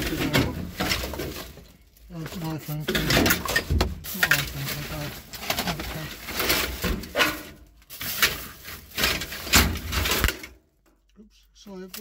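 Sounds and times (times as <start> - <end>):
plastic bags crinkling: 0.0 - 10.5.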